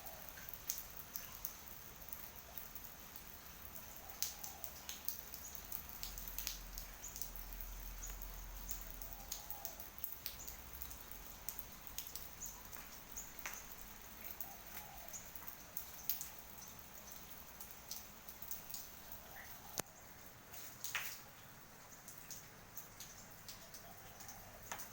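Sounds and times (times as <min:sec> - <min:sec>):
raindrops dripping and pattering: 0:00.0 - 0:24.9.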